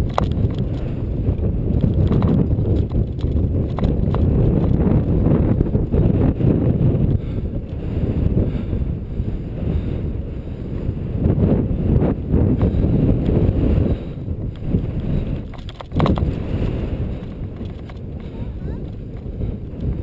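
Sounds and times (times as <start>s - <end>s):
bike rattling: 0.0s - 20.0s
wind buffeting microphone: 0.0s - 20.0s.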